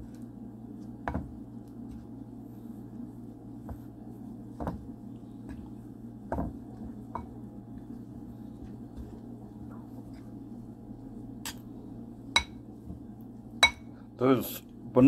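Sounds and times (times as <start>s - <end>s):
fork mixing dough in bowl: 0.0s - 13.7s
steady low hum: 0.0s - 15.0s.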